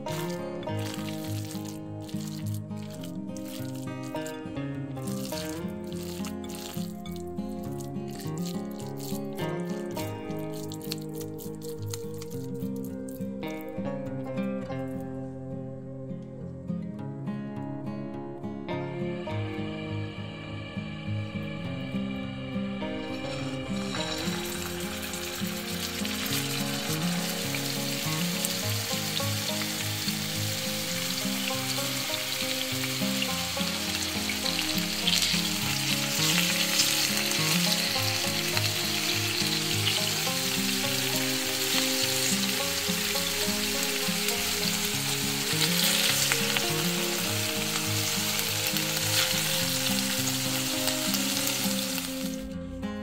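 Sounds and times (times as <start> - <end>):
meat patties sizzling in oil: 0.0 - 4.4, 5.0 - 13.6, 23.0 - 52.5
quiet background music: 0.0 - 53.0.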